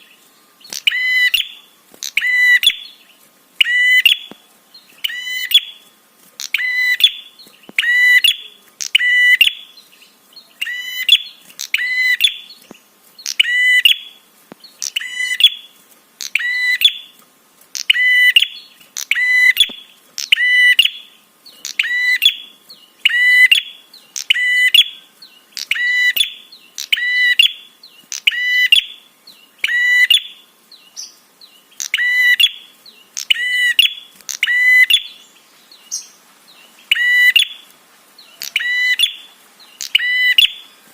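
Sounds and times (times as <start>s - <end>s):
bird calling: 0.0s - 40.9s.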